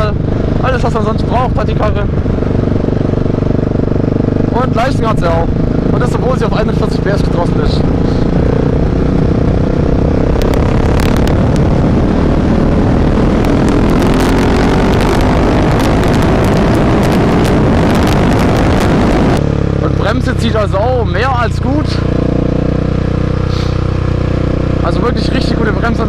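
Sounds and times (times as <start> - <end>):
heavy wind rush: 0.0 - 26.0
motorcycle engine accelerating: 0.0 - 26.0.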